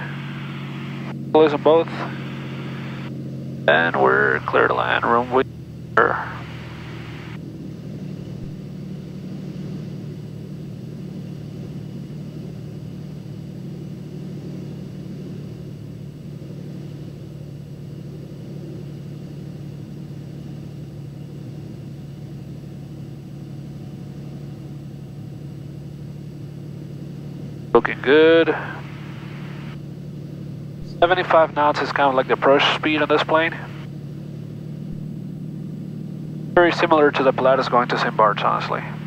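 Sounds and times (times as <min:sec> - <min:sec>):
aircraft engine and propeller droning: 0:00.0 - 0:39.0.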